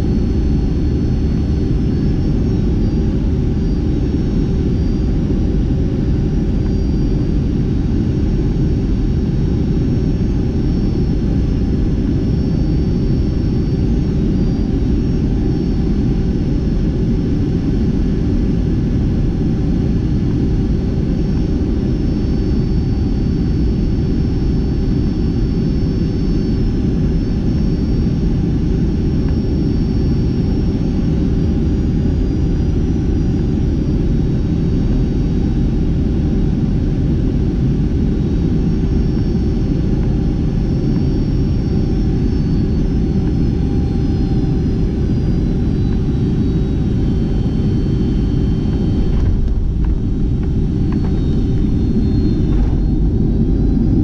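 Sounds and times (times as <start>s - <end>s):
airplane cabin roar: 0.0s - 54.0s
faint high whining tones: 0.1s - 54.0s.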